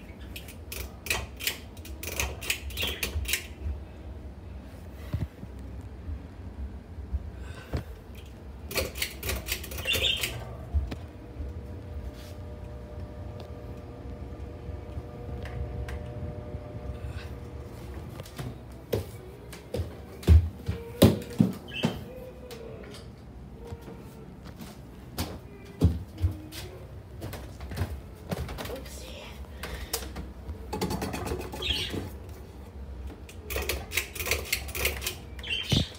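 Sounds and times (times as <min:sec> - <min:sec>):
ceiling fan humming: 0:00.0 - 0:35.9.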